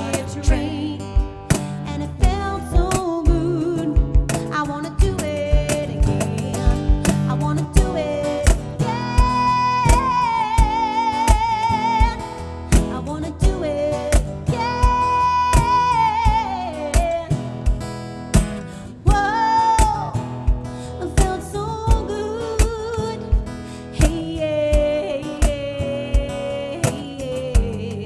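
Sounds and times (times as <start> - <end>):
woman singing: 0.0 - 18.0, 18.8 - 28.0
hand drum beat: 0.0 - 28.0
strummed acoustic guitar: 0.0 - 28.0.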